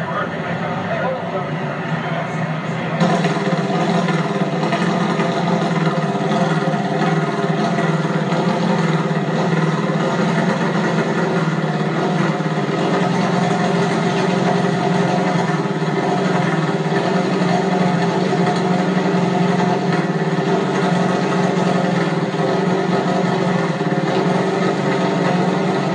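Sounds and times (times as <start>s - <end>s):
engine running steadily: 0.0s - 25.9s.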